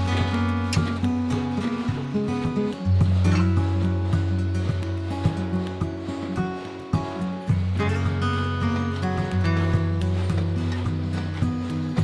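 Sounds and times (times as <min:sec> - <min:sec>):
background music with bass note: 0:00.0 - 0:12.0.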